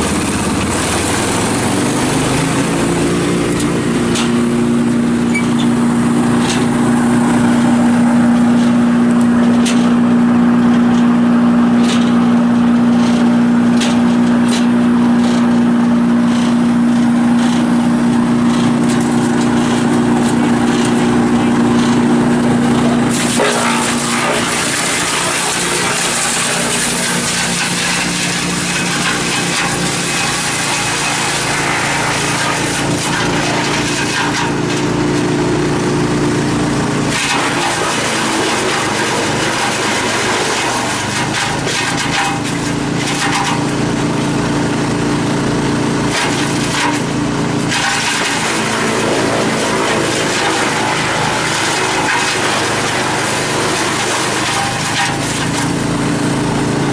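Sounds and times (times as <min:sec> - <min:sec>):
engine hum: 0:00.0 - 0:56.9
wood chipper crackling: 0:00.0 - 0:56.9.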